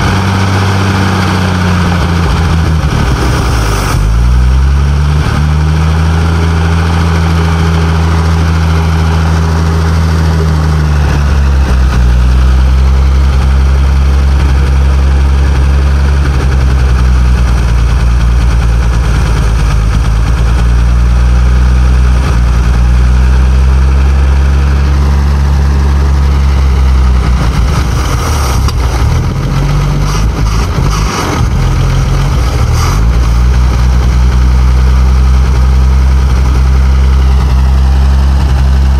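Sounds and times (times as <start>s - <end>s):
truck engine running unevenly: 0.0s - 38.9s.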